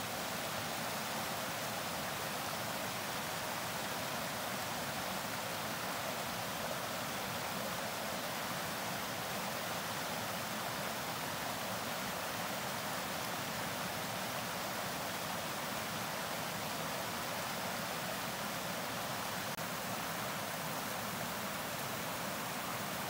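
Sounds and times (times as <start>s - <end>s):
creek running over stones: 0.0s - 23.0s.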